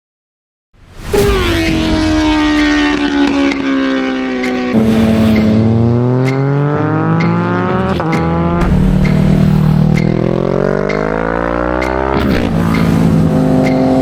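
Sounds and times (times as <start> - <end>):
motorcycle engine accelerating: 1.0 - 14.0.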